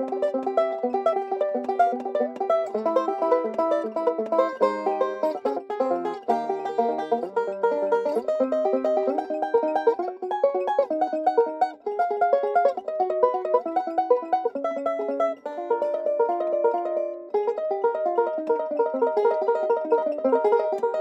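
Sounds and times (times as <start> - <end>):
banjo picking: 0.0 - 21.0.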